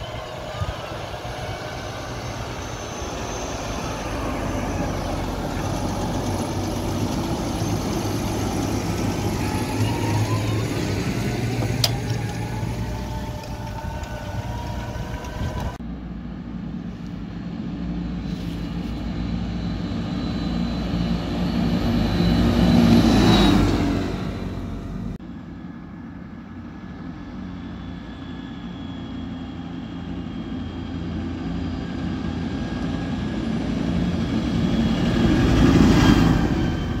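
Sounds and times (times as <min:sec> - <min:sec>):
tractor diesel engines running: 0:00.0 - 0:37.0.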